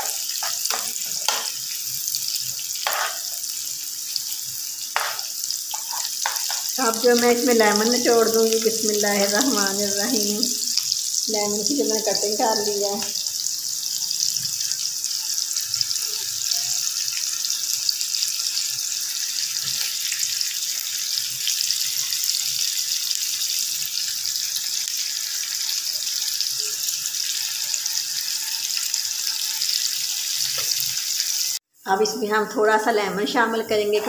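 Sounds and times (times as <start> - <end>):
onions sizzling in oil: 0.0 - 34.0.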